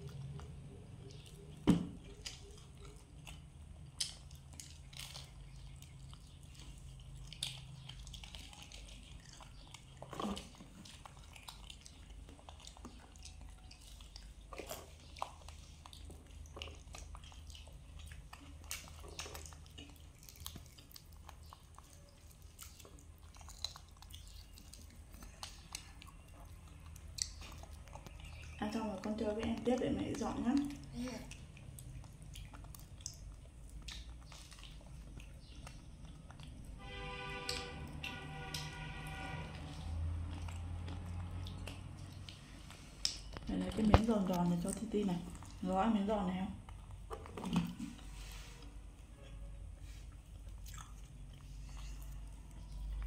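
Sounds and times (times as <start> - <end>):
chewing crispy food: 0.0 - 53.0.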